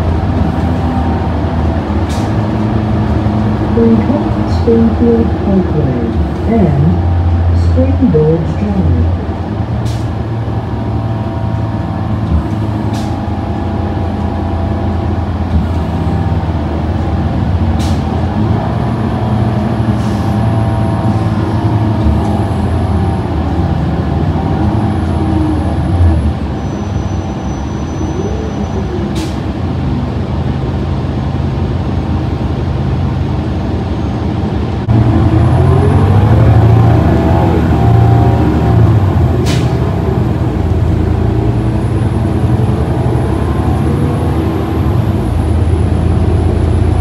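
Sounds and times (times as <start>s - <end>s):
bus engine running: 0.0s - 47.0s
road noise: 0.0s - 47.0s.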